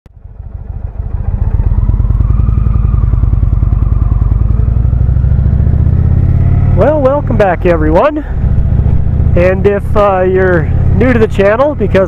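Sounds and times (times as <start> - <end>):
motorcycle engine cruising: 0.1 - 12.0.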